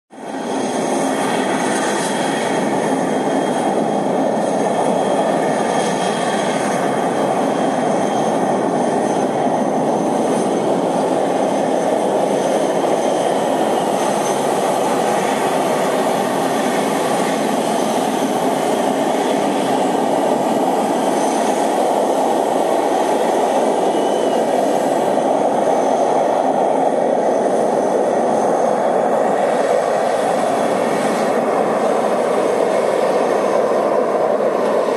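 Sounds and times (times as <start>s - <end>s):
jet engines roaring: 0.1s - 34.9s
high engine whines: 0.2s - 34.9s.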